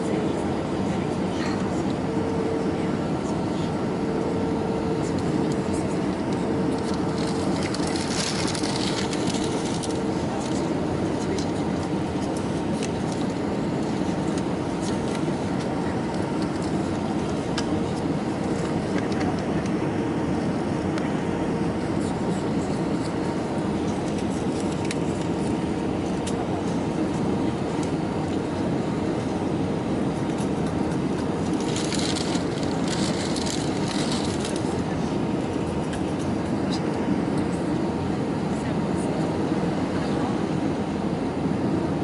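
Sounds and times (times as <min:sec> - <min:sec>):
jet engines rumbling: 0:00.0 - 0:42.0.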